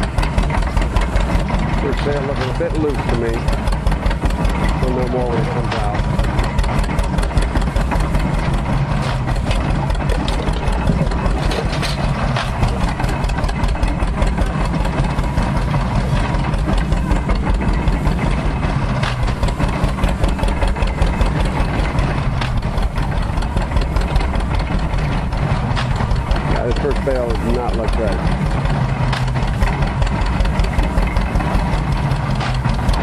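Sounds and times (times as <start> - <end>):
straw baler strokes: 0.0 - 33.0
tractor engine running: 0.0 - 33.0.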